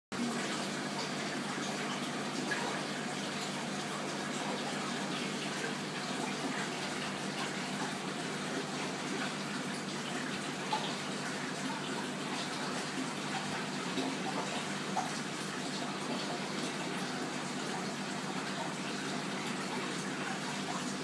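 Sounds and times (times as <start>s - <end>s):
running water: 0.1s - 21.0s.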